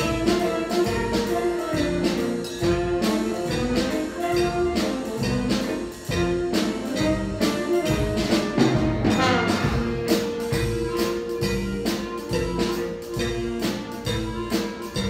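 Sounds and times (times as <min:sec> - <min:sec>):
bass: 0:00.0 - 0:15.0
drum kit steady beat: 0:00.0 - 0:15.0
keyboard: 0:00.0 - 0:15.0
saxophones and brass chords: 0:00.0 - 0:15.0.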